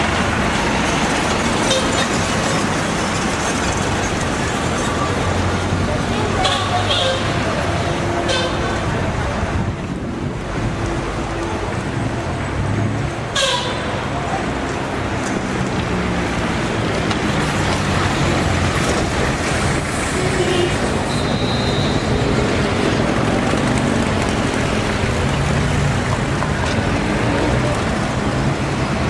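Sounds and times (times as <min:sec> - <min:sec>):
busy street traffic: 0:00.0 - 0:29.0.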